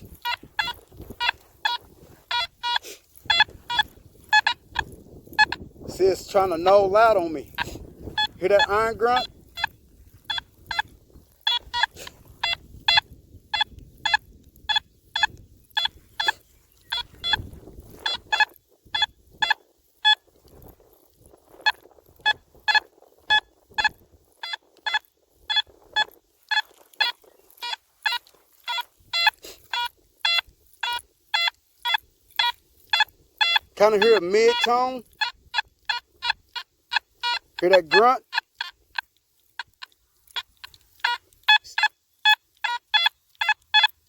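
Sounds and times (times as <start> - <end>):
metal detector beeps: 0.0 - 20.6, 21.5 - 44.0.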